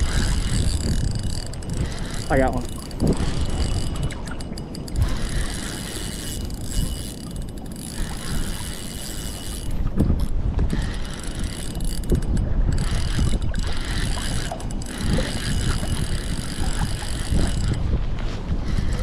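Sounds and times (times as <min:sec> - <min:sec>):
fishing reel cranking: 0:00.0 - 0:17.8, 0:18.6 - 0:19.0
reel clicks: 0:00.0 - 0:17.9, 0:18.6 - 0:19.0
wind rumble on microphone: 0:00.0 - 0:19.0.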